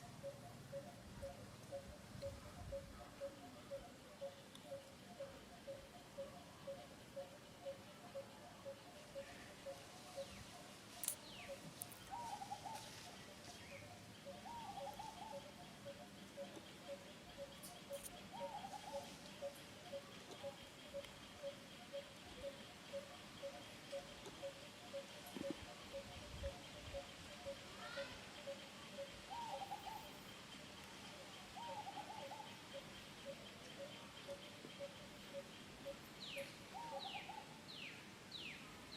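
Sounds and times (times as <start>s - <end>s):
soft pulsing bird notes: 0.0s - 37.5s.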